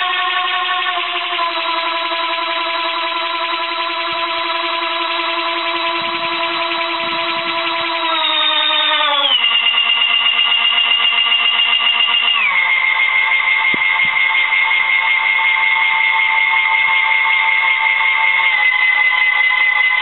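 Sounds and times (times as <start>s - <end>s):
electric blower whining: 0.0s - 20.0s.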